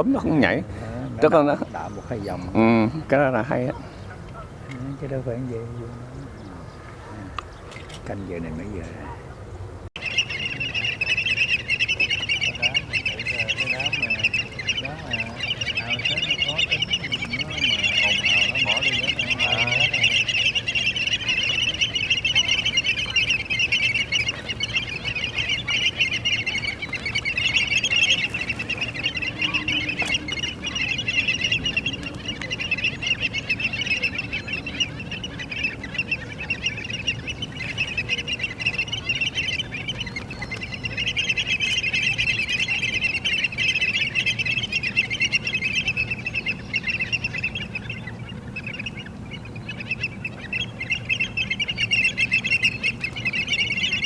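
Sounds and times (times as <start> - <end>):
flock of birds chattering: 0.0 - 54.0.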